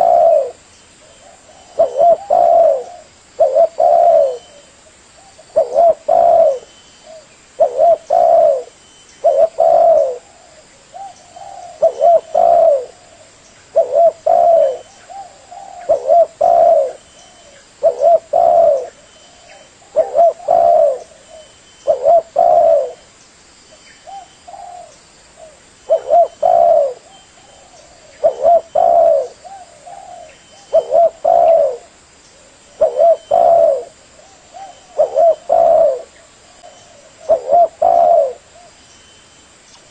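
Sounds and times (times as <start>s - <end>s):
dove cooing: 0.0s - 23.1s, 24.0s - 38.8s.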